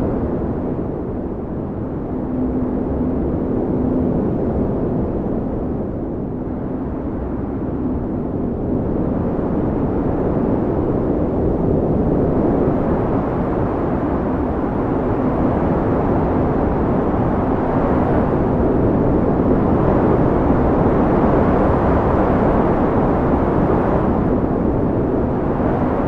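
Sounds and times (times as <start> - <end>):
wind blowing: 0.0 - 26.0.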